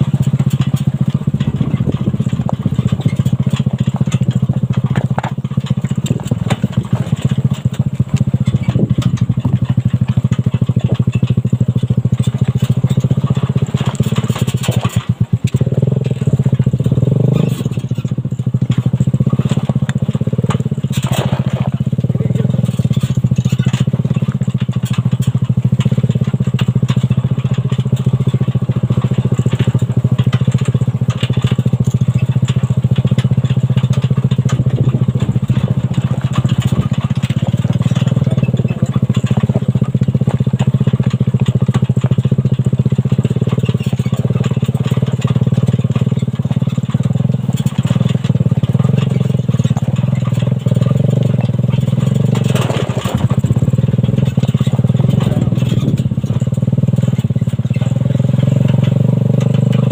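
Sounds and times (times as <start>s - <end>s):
buggy engine running: 0.0s - 59.9s.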